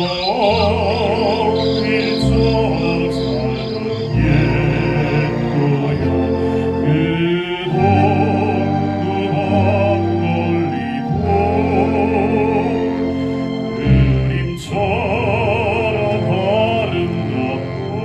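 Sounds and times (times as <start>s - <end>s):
baritone singing with operatic vibrato: 0.0s - 18.0s
sustained instrumental accompaniment: 0.0s - 18.0s.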